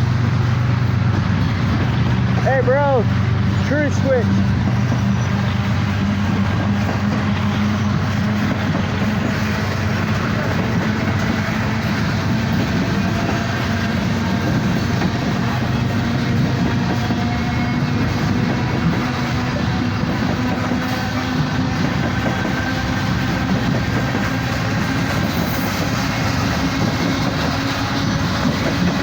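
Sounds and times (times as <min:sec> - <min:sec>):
train wheel and rail noise: 0:00.0 - 0:29.0.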